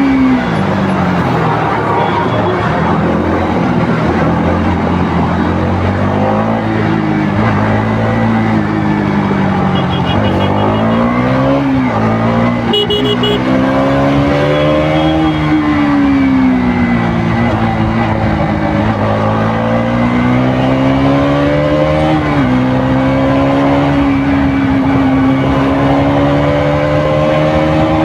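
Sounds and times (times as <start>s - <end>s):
motorcycle engine revving: 2.8s - 28.0s.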